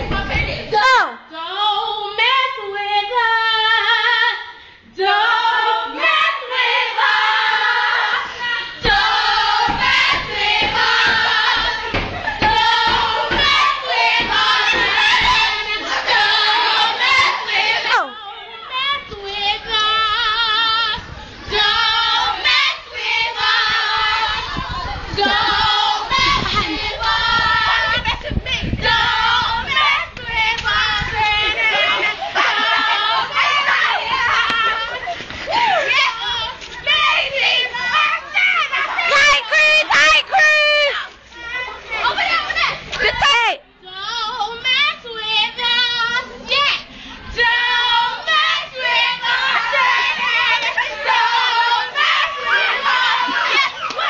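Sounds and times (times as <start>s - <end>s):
group of people singing: 1.4s - 39.5s, 43.9s - 54.0s.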